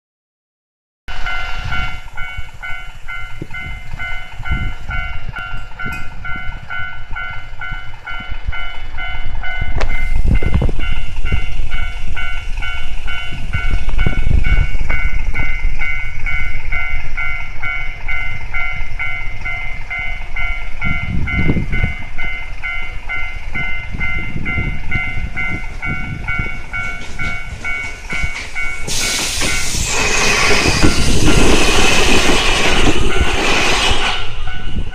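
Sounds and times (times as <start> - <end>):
electric train passing: 1.1 - 34.9
level crossing alarm clanging: 1.1 - 34.9.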